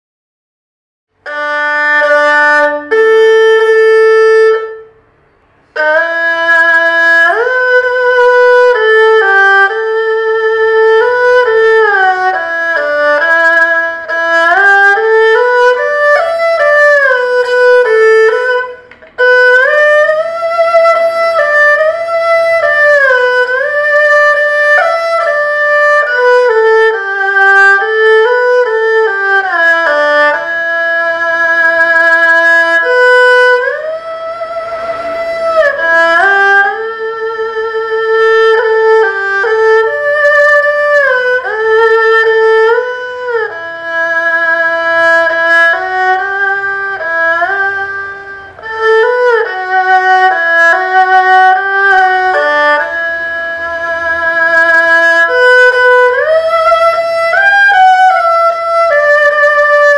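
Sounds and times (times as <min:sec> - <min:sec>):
erhu solo melody: 0:01.2 - 0:59.9.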